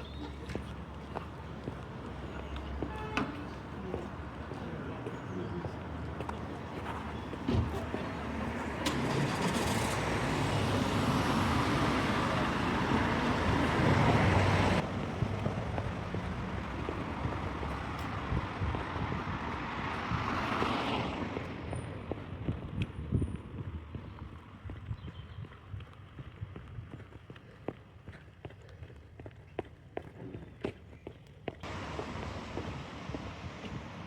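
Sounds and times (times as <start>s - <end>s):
vehicles passing close: 0.0s - 26.5s, 31.6s - 34.0s.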